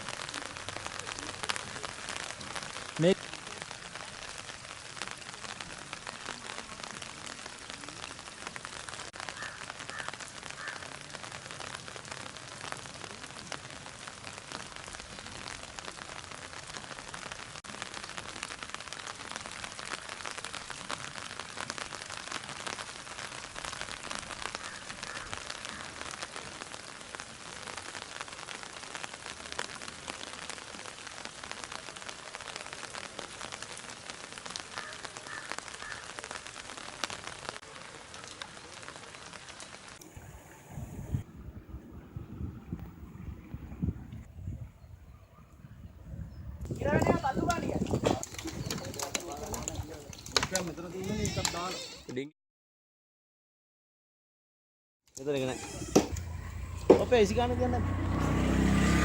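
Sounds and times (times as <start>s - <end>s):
rain falling: 0.0s - 42.1s, 46.6s - 52.2s, 55.2s - 59.0s.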